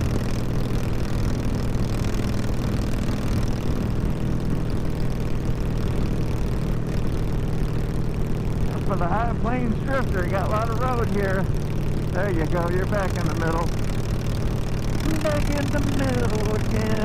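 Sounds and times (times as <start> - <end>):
motorcycle engine with loud exhaust: 0.0 - 17.0
wind and road noise: 0.0 - 17.0.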